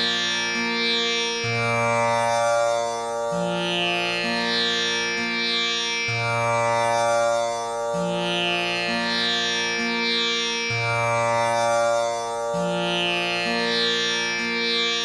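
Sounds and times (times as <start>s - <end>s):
tanpura drone: 0.0s - 15.0s.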